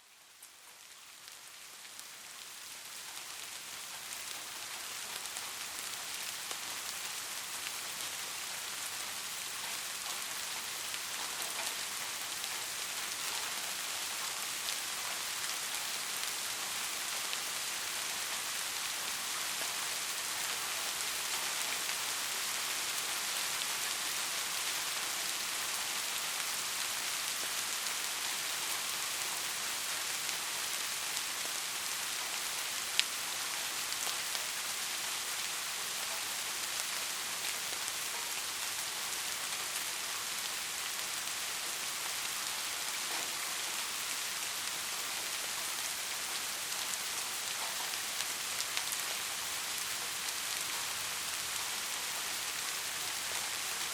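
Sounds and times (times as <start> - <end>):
soft rain falling: 0.0 - 53.9.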